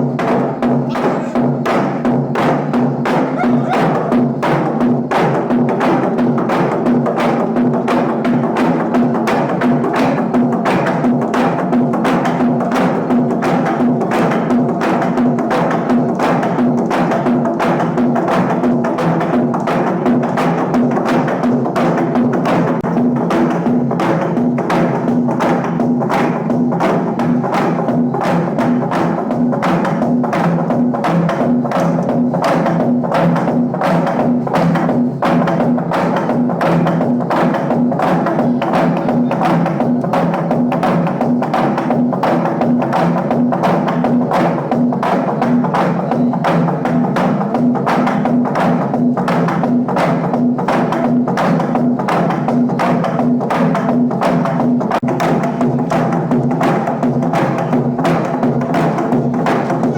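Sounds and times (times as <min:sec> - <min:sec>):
log drum beaten fast: 0:00.0 - 0:59.9.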